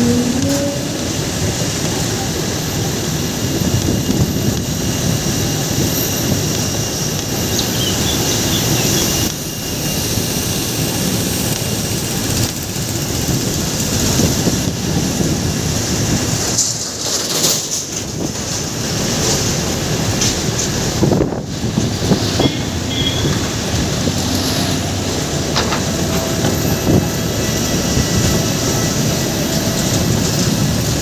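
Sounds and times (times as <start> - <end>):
jet engines rumbling and hissing: 0.0 - 31.0.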